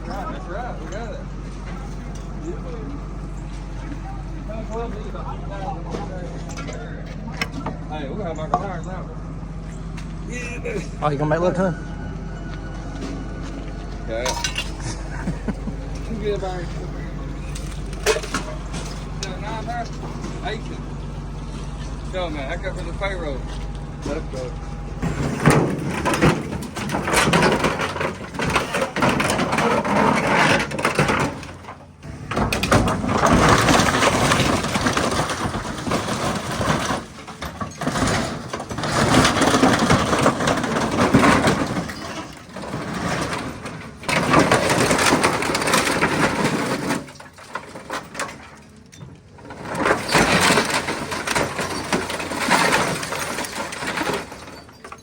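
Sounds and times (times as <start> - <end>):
metal crunching and breaking: 0.0 - 55.0.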